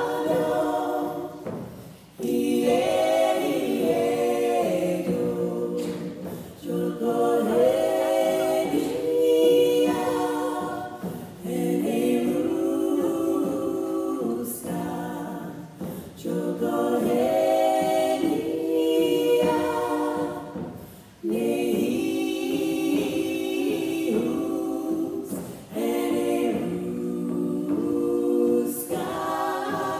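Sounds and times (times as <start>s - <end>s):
women singing a cappella: 0.0s - 29.9s.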